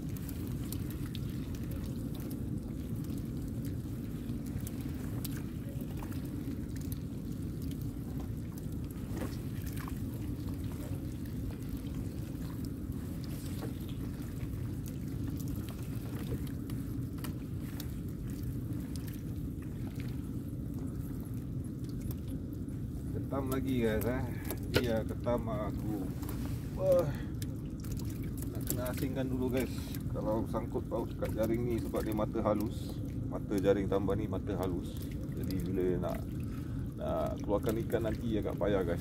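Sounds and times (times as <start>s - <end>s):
faint ticks and patters: 0.0s - 39.0s
low motor rumble: 0.0s - 39.0s
water pouring and dripping: 0.0s - 39.0s.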